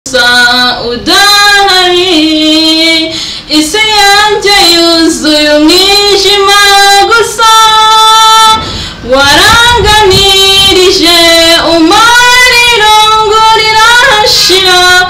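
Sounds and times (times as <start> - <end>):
woman singing: 0.1 - 15.0.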